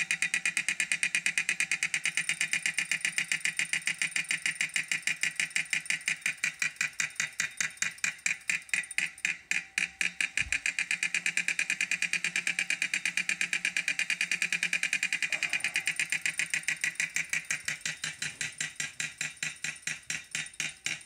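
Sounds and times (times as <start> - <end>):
bike trainer clicking: 0.0 - 21.0.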